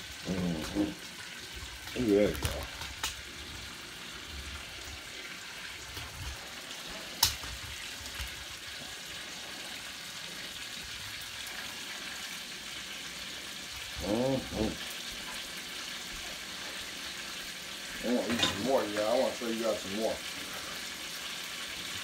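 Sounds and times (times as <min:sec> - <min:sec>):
steak sizzling in a frying pan: 0:00.0 - 0:22.0.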